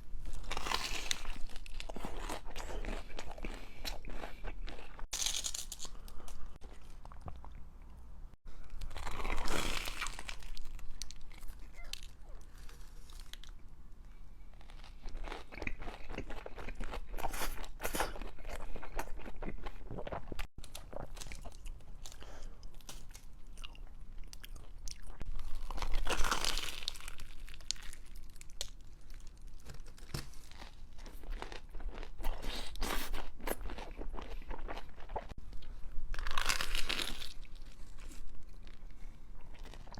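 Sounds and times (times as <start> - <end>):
person chewing crunchy food: 0.2 - 7.9, 8.6 - 13.6, 14.4 - 39.9.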